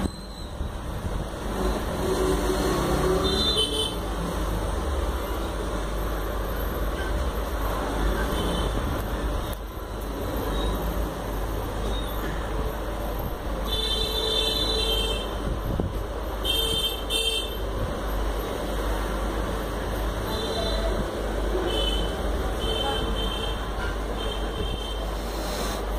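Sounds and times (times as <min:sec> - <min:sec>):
street noise with low hum: 0:00.0 - 0:25.9.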